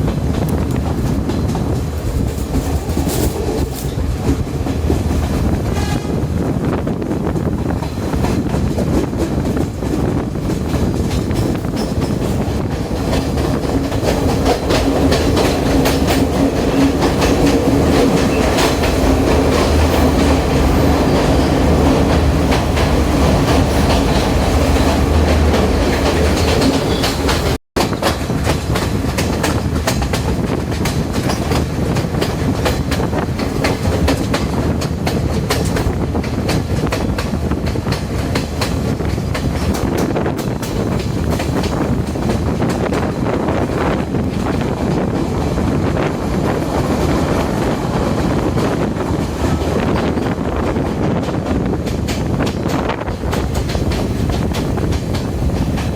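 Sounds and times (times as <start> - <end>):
steady train hum: 0.0 - 55.9
train wheels clattering on rails: 0.0 - 55.9.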